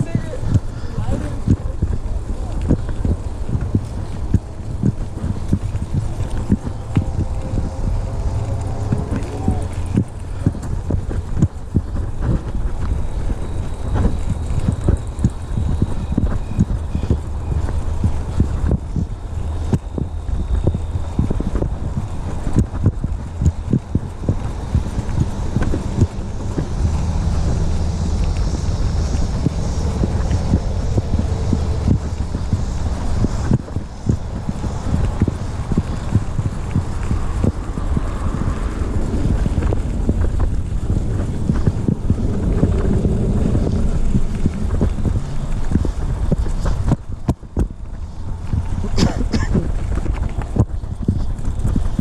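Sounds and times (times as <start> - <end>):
low rumble: 0.0 - 52.0
wind buffeting microphone: 0.0 - 52.0.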